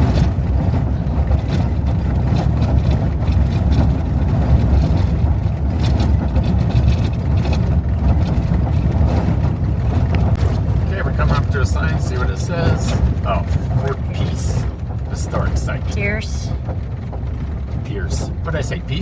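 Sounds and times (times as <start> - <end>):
car engine and tyres rumbling: 0.0 - 19.0
gravel clicks: 0.0 - 19.0.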